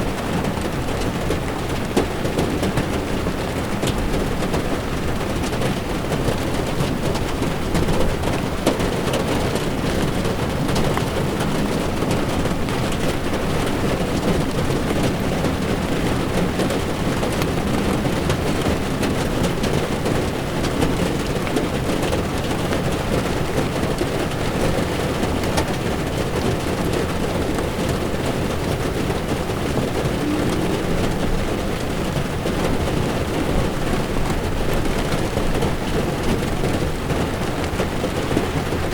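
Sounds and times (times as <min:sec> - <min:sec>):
rain on car windshield: 0:00.0 - 0:38.9
tyres on wet road: 0:00.0 - 0:38.9
raindrop ticks: 0:00.1 - 0:38.9.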